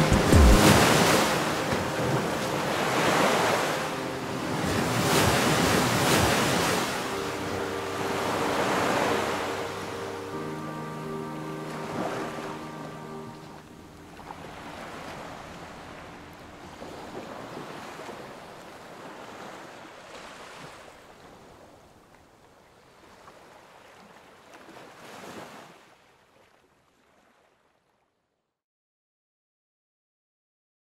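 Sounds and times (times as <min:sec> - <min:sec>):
ocean surf waves: 0:00.0 - 0:22.0, 0:22.7 - 0:26.0.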